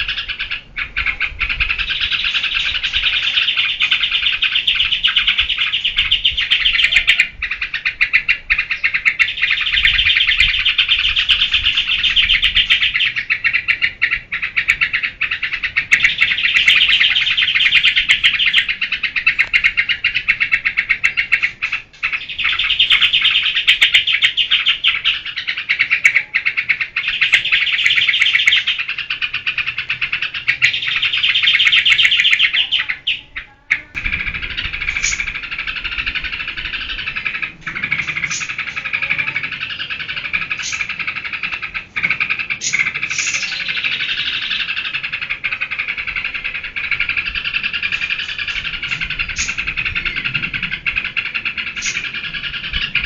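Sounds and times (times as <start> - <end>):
bulbul fast chattering song: 0.0 - 53.0.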